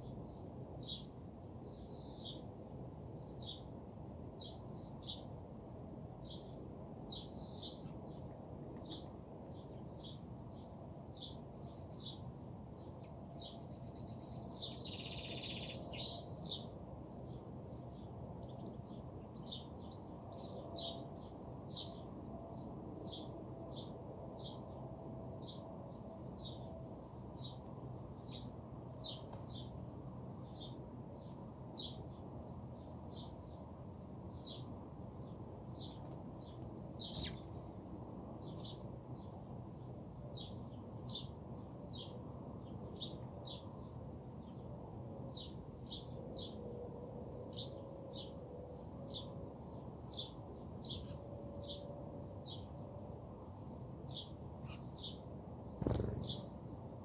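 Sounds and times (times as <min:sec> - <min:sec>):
sparrows chirping: 0:00.0 - 0:46.6, 0:47.2 - 0:57.0.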